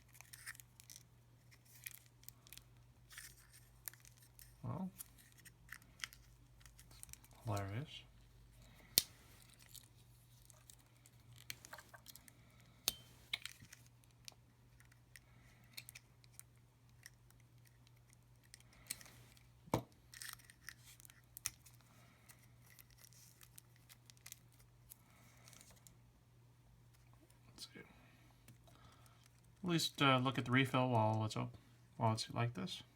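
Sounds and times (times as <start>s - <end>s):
faint electrical hum: 0.0s - 32.9s.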